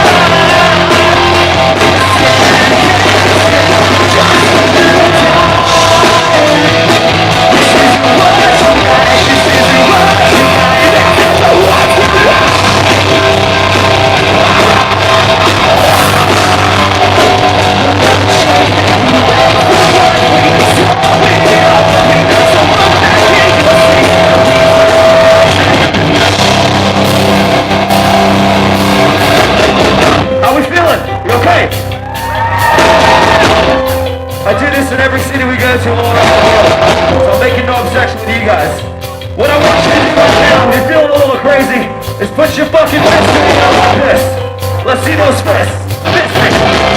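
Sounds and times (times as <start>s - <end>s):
bass guitar: 0.0s - 46.9s
drums: 0.0s - 46.9s
heavy distorted guitars: 0.0s - 46.9s.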